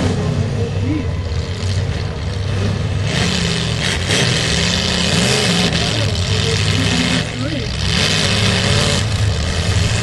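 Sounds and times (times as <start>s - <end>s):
car engines revving: 0.0s - 10.0s.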